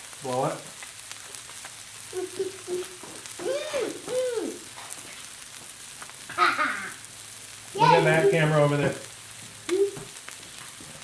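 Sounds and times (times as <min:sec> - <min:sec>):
fish sizzling on a griddle: 0:00.0 - 0:11.0.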